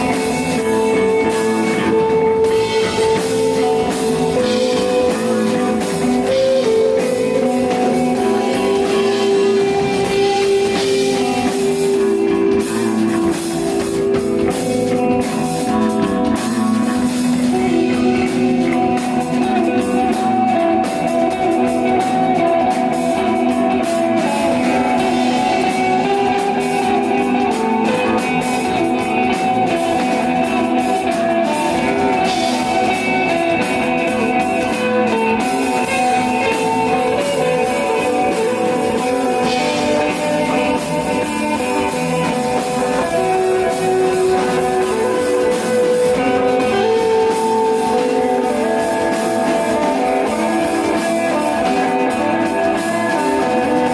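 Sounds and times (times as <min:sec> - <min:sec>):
drum kit with cymbals: 0:00.0 - 0:53.9
electric guitars: 0:00.0 - 0:53.9.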